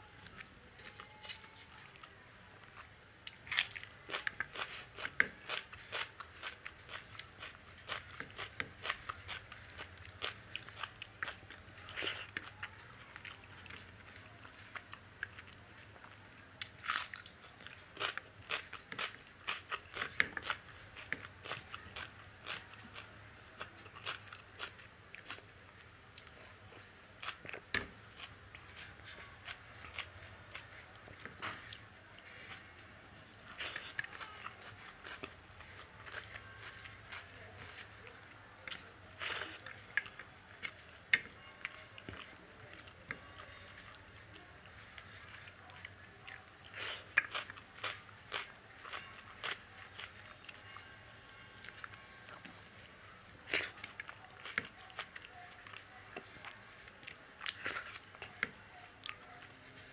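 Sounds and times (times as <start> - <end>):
wet chewing with crunches: 0.2 - 25.5, 26.2 - 50.9, 51.6 - 59.9.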